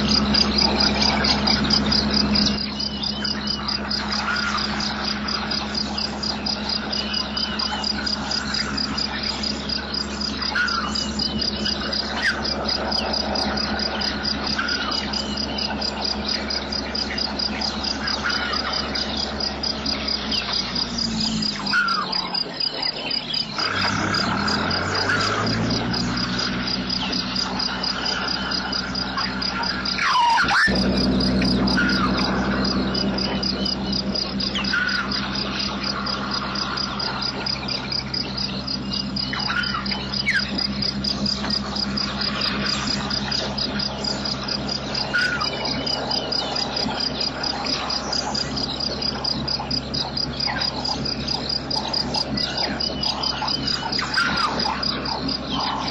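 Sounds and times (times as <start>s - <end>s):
low steady hum: 0.0s - 55.9s
pulsing insect chorus: 0.0s - 55.9s
short bird calls: 0.0s - 55.9s.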